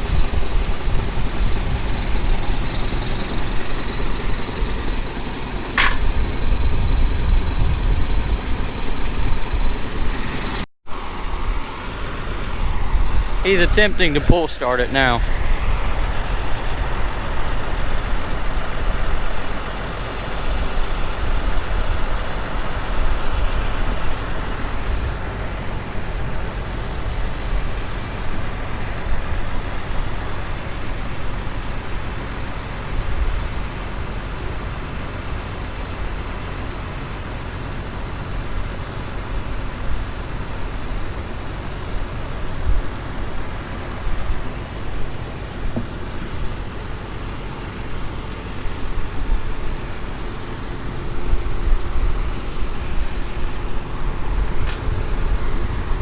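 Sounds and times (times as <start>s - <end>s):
heavy vehicle engine under load: 0.0s - 12.5s, 13.2s - 56.0s.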